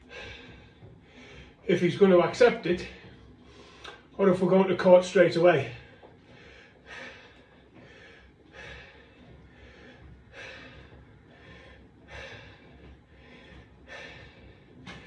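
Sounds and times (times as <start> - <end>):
man breathing hard: 0.0 - 1.7, 2.8 - 4.2, 5.8 - 15.0.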